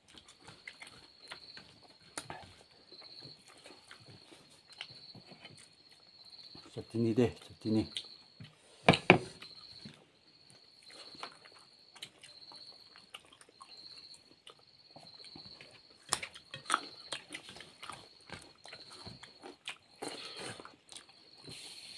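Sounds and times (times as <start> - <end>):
wet chewing and smacking: 0.0 - 6.8, 9.3 - 21.6
insects trilling: 0.0 - 21.9.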